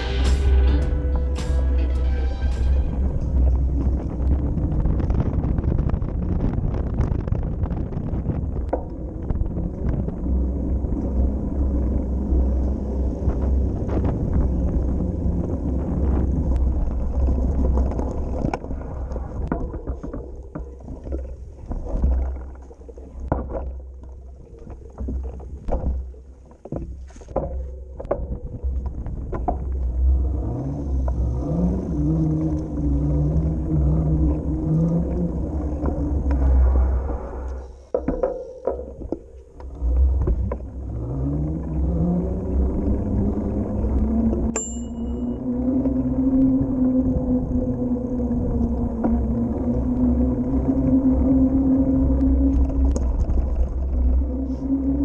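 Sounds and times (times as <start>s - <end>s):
low droning tone: 0.0s - 55.0s
wind buffeting microphone: 0.0s - 55.0s.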